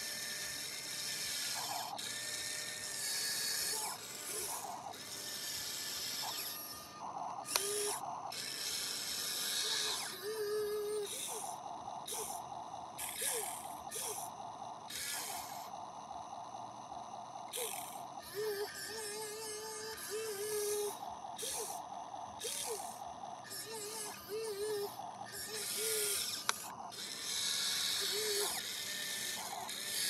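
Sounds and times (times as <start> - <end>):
toy excavator motors whirring: 0.0 - 30.0.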